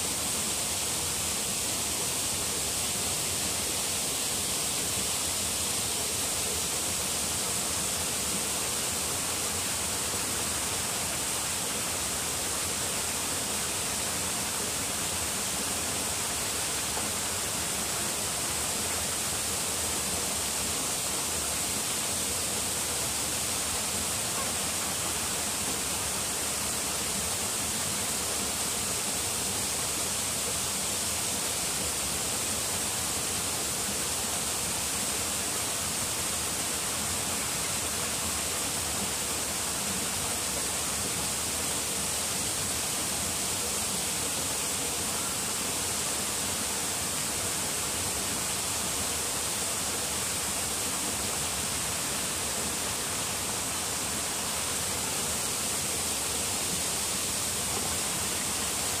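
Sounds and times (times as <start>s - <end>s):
running water hiss: 0.0s - 59.0s.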